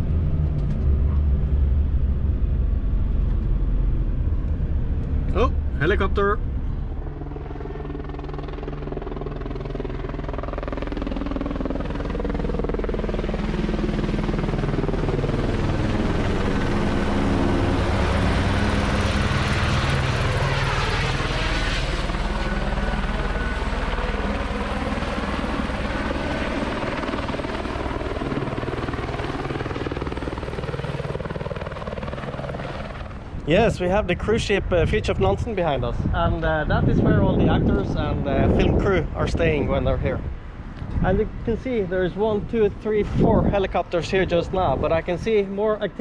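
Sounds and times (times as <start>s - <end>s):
helicopter rotor and turbine: 0.0s - 46.0s.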